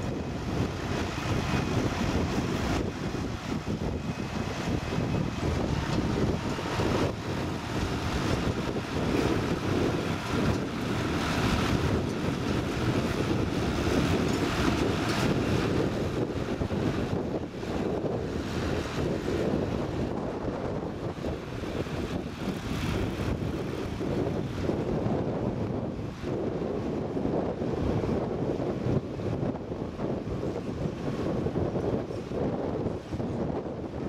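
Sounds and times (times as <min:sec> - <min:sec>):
tractor diesel engine under load: 0:00.0 - 0:34.0
wind buffeting microphone: 0:00.0 - 0:34.0.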